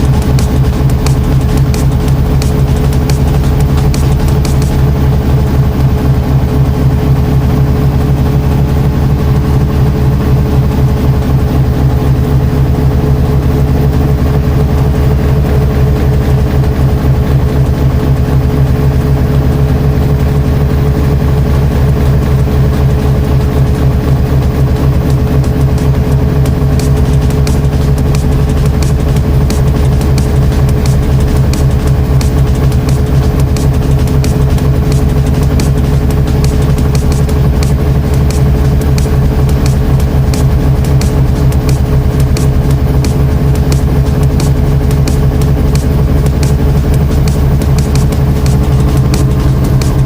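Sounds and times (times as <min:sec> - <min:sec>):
motor humming: 0:00.0 - 0:50.0.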